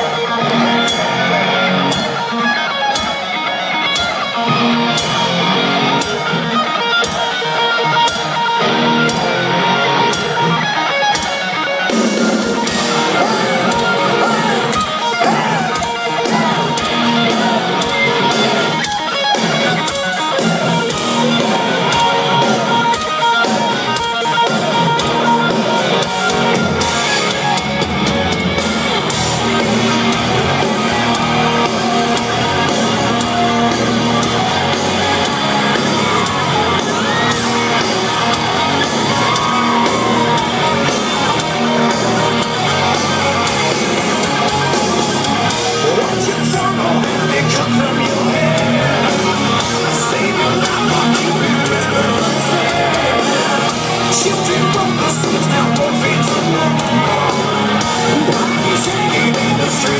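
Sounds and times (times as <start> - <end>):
electric guitar riff: 0.0 - 59.9
live heavy metal band: 0.0 - 59.9.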